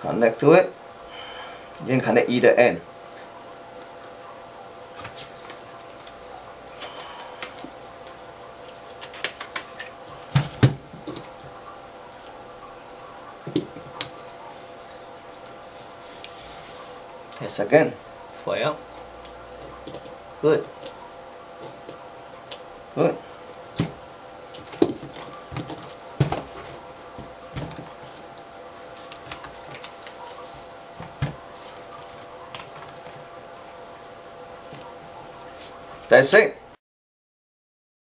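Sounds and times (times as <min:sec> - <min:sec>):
faint steady hum: 0:00.0 - 0:36.8.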